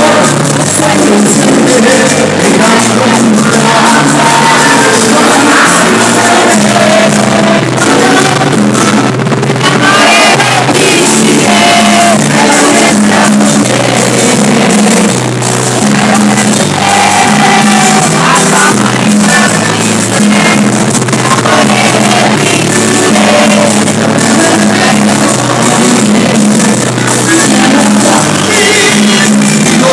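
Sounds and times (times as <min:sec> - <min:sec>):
bass line: 0:00.0 - 0:29.9
lead singer singing: 0:00.0 - 0:29.9
live cumbia band playing: 0:00.0 - 0:29.9.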